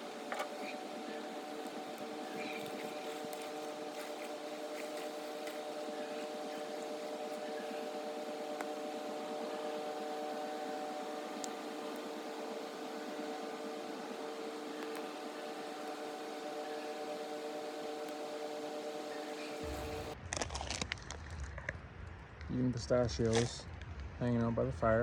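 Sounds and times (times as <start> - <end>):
steady multi-pitched hum: 0.0 - 20.2.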